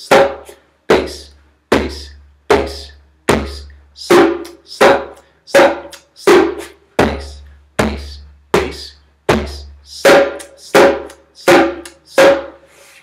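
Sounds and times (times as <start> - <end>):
djembe bass tones: 0.0 - 12.6
djembe rim slaps: 0.0 - 12.7.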